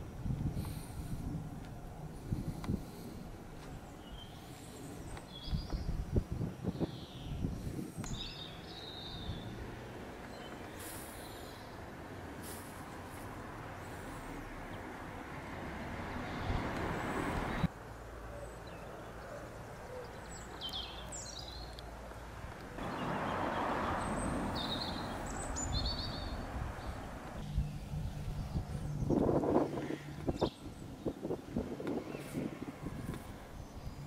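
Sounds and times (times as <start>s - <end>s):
distant traffic: 0.0s - 34.0s
songbirds chirping: 0.0s - 34.0s
wind: 0.0s - 34.0s.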